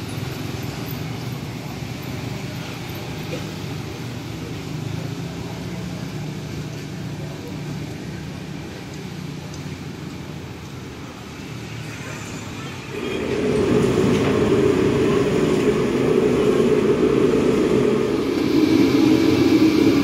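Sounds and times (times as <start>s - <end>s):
hum of engines: 0.0s - 20.0s
scooters and cars passing: 0.0s - 20.0s
tyres hissing on wet road: 0.0s - 20.0s.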